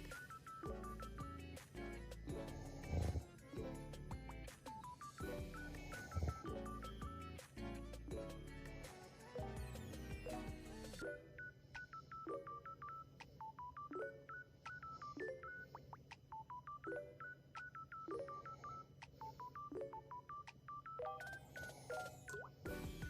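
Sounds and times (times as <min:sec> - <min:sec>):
electronic beeping music: 0:00.0 - 0:23.0.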